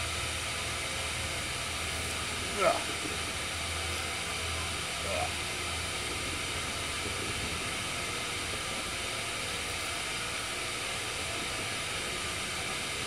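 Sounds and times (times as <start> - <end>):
gas stove burner hissing: 0.0 - 13.0.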